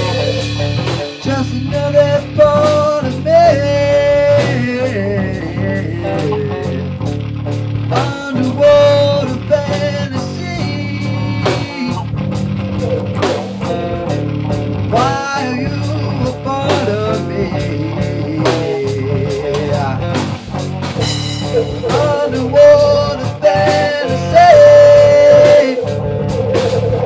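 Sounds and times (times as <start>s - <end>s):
bending lead guitar line: 0.0s - 27.0s
rock band jamming: 0.0s - 27.0s
steady drum beat: 0.0s - 27.0s.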